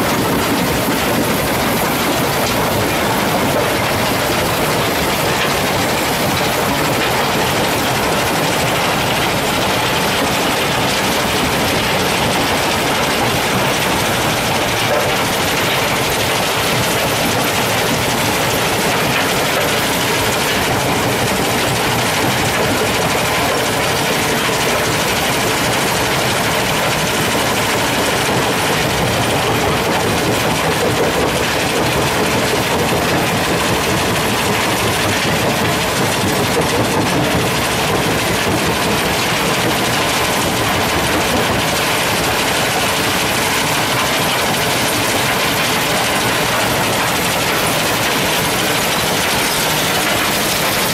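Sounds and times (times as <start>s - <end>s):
machinery running: 0.0s - 50.9s.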